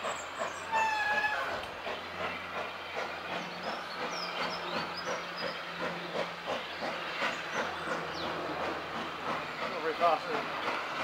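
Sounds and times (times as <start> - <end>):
steam hissing: 0.0 - 11.0
steam locomotive chuffing: 0.0 - 11.0.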